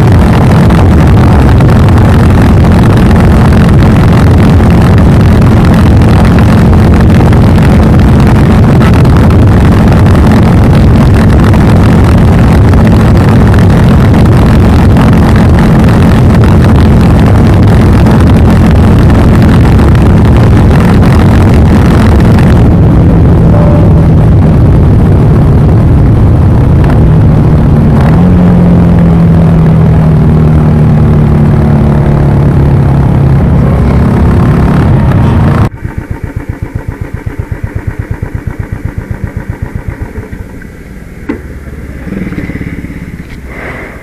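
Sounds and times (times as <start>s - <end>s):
motorcycle engine running steadily: 0.0s - 44.0s.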